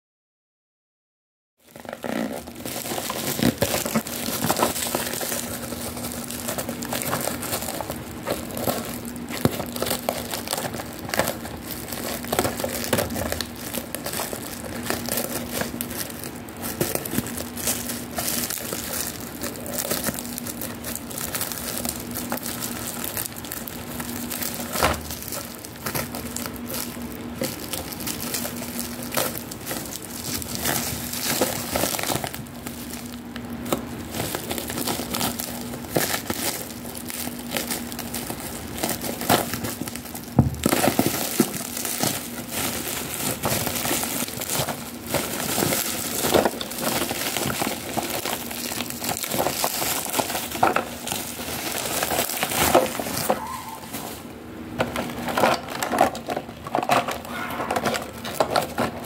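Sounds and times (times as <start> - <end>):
scissors cutting plastic: 1.6 - 54.2, 54.8 - 59.0
faint steady hum: 1.6 - 59.0
plastic wrap crinkling: 1.6 - 59.0.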